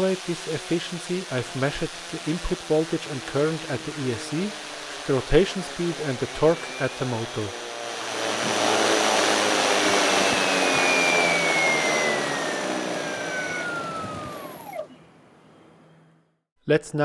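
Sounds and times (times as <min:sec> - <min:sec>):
propeller wash rushing: 0:00.0 - 0:15.0
electric motor whine: 0:00.0 - 0:15.9.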